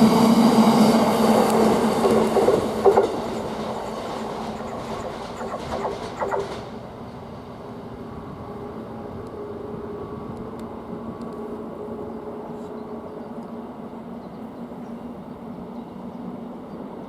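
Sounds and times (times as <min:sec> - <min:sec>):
diesel train rumbling: 0:00.0 - 0:17.0.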